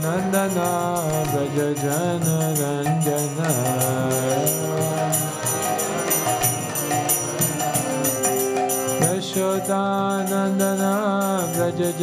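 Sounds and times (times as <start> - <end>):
hand cymbals jingling: 0.0 - 12.0
harmonium sustained chords: 0.0 - 12.0
person singing: 0.0 - 12.0.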